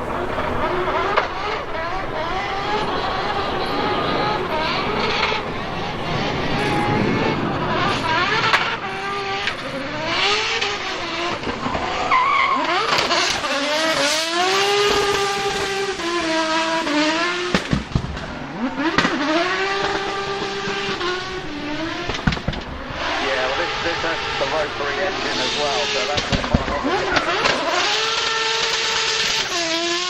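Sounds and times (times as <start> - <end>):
tyres squealing: 0.0 - 16.1, 18.3 - 29.7
car engine revving: 0.0 - 30.0.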